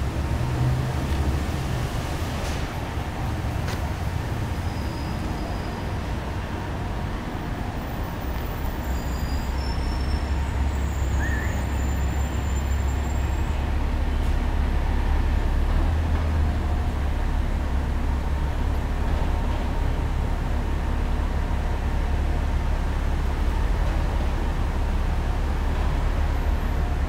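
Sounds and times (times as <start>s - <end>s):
low rumble of city noise: 0.0s - 27.0s.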